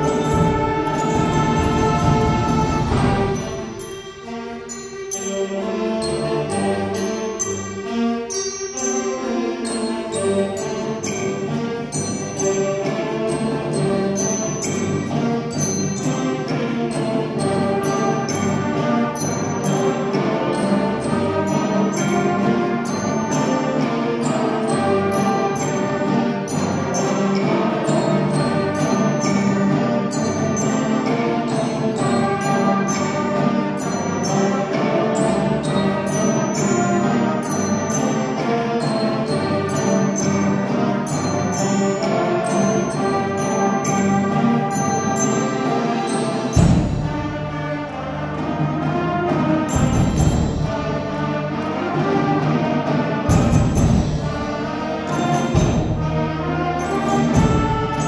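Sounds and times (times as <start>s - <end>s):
concert band playing: 0.0s - 58.0s.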